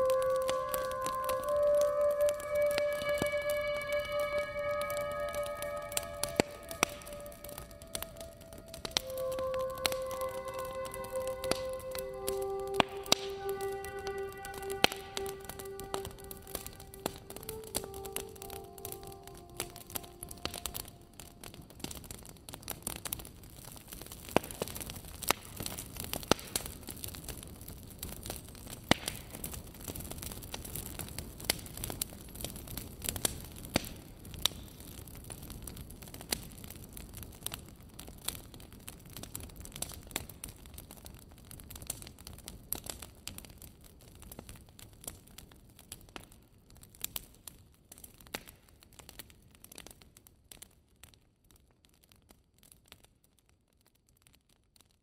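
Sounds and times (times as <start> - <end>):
soft steady hiss: 0.0 - 47.9
twig fire crackling and popping: 0.0 - 55.0.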